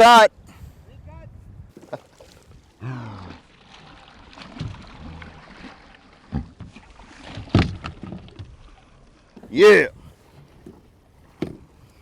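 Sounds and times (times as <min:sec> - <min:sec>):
water moving around a kayak: 0:00.0 - 0:12.0.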